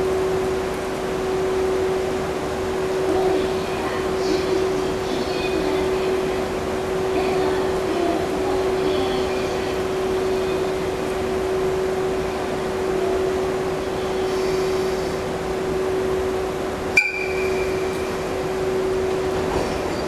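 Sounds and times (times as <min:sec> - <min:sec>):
electric locomotive humming: 0:00.0 - 0:20.0.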